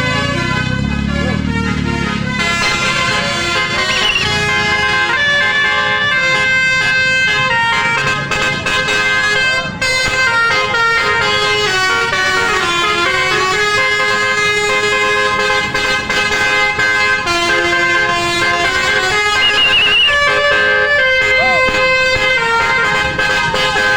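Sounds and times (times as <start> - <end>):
musical air horn playing tune: 0.0 - 23.9.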